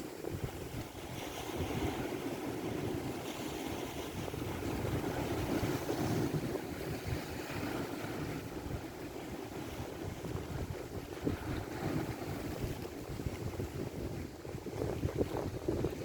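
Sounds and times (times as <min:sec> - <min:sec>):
sea water rushing: 0:00.0 - 0:16.0
wind buffeting microphone: 0:00.0 - 0:16.0.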